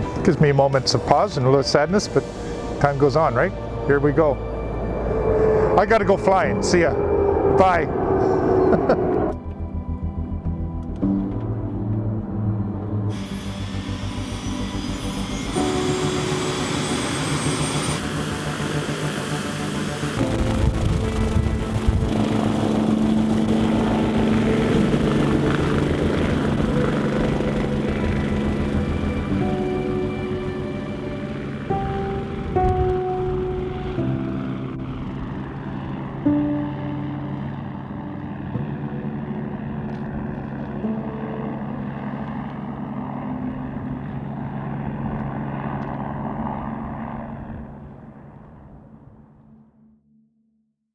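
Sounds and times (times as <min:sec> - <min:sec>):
helicopter rotor beat: 0:00.0 - 0:10.8, 0:13.1 - 0:49.3
helicopter engine whine: 0:00.0 - 0:11.4, 0:12.2 - 0:49.6.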